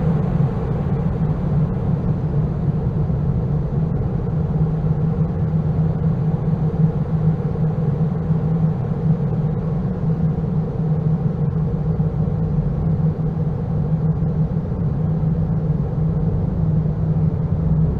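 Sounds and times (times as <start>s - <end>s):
low rumbling ambient drone: 0.0s - 17.9s.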